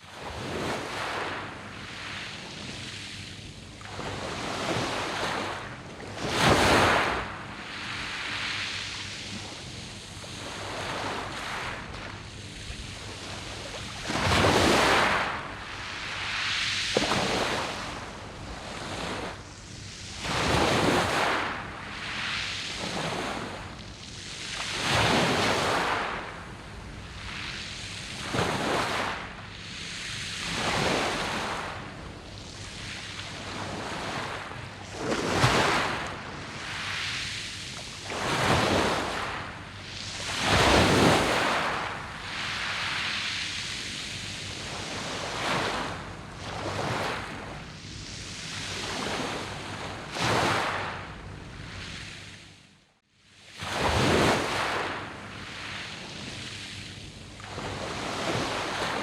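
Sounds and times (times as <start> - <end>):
waves washing over pebbles: 0.2 - 52.3, 53.6 - 59.0.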